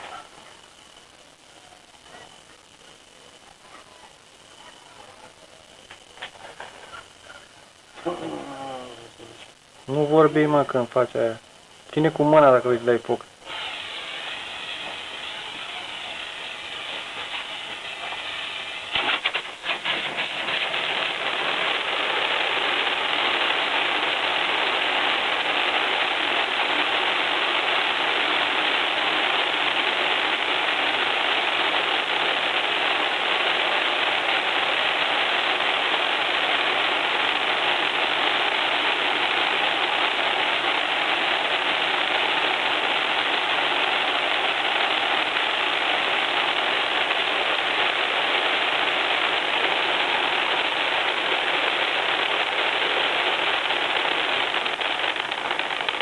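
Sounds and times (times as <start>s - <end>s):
firework fountain hissing: 0.0s - 56.0s
sharp crackles: 0.0s - 56.0s.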